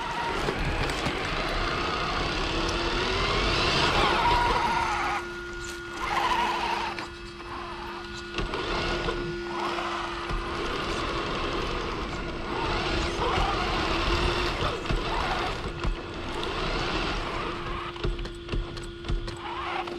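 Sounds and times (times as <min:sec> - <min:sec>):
electric motor and gear whine: 0:00.0 - 0:19.9
wheels clicking and knocking: 0:00.0 - 0:19.9.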